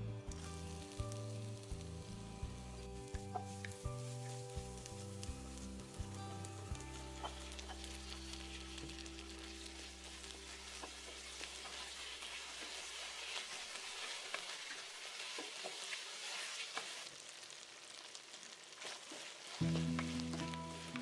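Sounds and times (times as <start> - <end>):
food sizzling in hot oil: 0.2 - 21.0.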